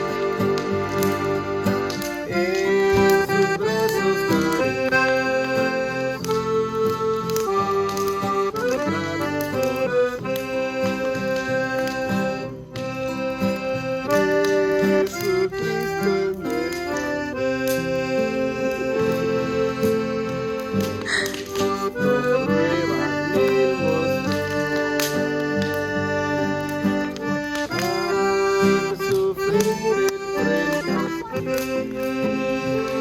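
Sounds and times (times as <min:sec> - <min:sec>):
accordion playing a tune: 0:00.0 - 0:33.0.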